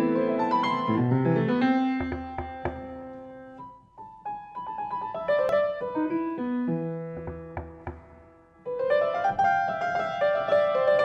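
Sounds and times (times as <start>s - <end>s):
solo piano playing chords: 0.0s - 11.0s.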